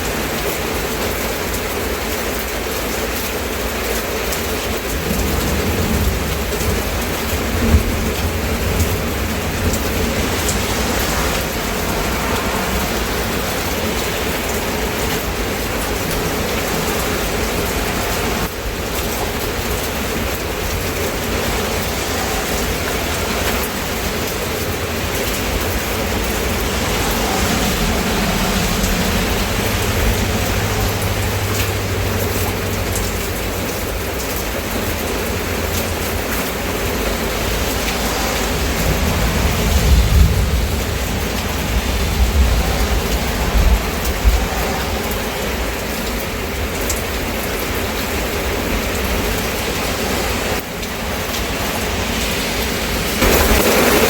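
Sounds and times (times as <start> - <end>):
rain pattering on surfaces: 0.0 - 54.0.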